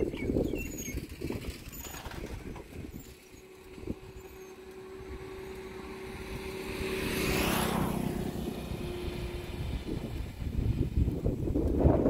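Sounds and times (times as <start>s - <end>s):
motor vehicle passing by: 0.6s - 12.0s
steady low hum: 1.0s - 11.9s.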